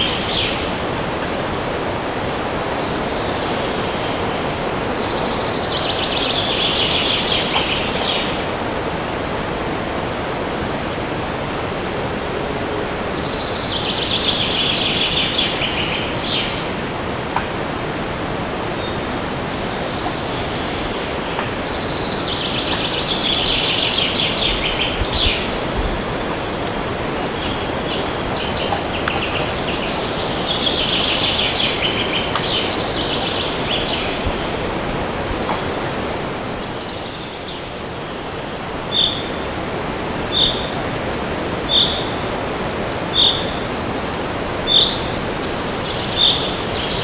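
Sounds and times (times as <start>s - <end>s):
songbirds singing: 0.0s - 47.0s
wind through trees: 0.0s - 47.0s.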